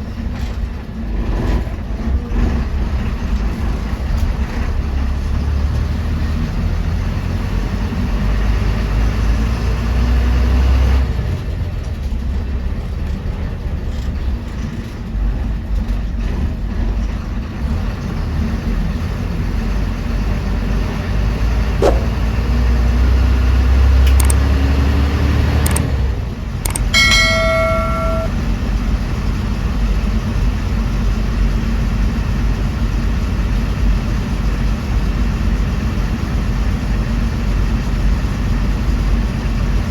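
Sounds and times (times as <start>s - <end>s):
bus engine and road noise: 0.0s - 26.8s, 28.8s - 39.9s.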